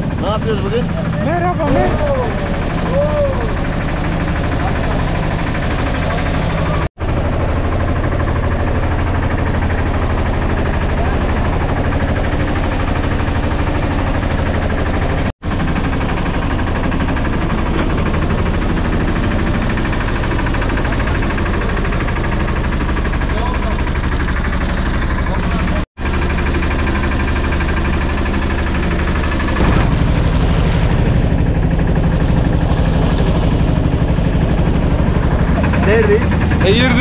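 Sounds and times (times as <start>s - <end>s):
boat engine chugging: 0.0s - 37.0s.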